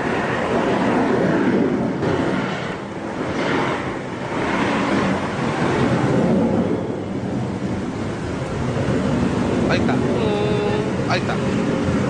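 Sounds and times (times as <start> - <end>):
steady noisy rumble: 0.0 - 12.0.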